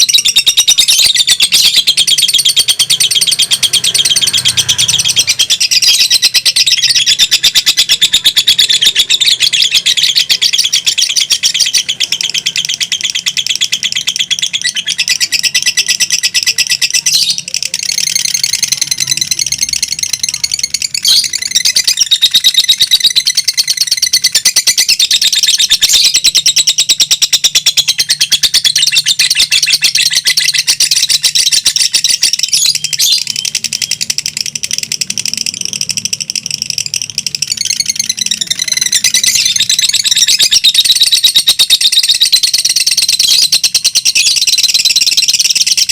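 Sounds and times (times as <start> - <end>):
lovebirds chattering: 0.0 - 45.9.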